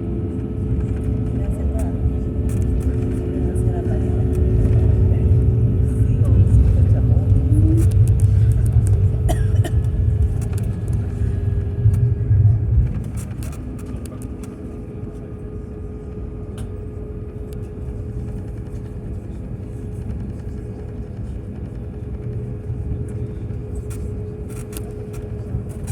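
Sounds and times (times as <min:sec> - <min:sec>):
heavy rumble: 0:00.0 - 0:25.9
jet engines droning: 0:00.0 - 0:25.9.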